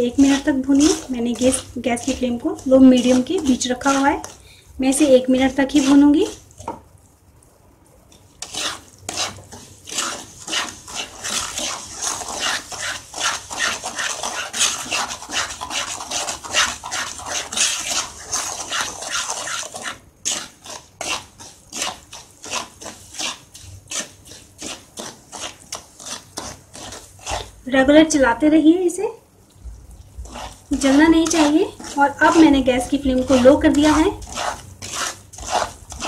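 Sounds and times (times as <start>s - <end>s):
wooden spatula scraping pan: 0.0s - 6.8s, 8.1s - 28.1s, 30.0s - 36.0s.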